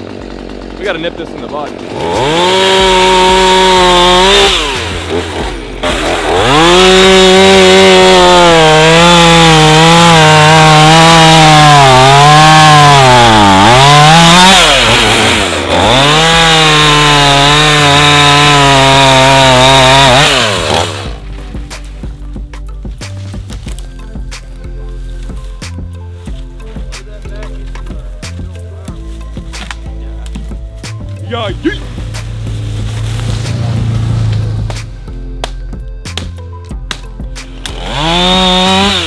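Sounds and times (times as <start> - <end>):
chainsaw cutting log: 0.0 - 22.2, 27.7 - 36.3, 36.9 - 39.0.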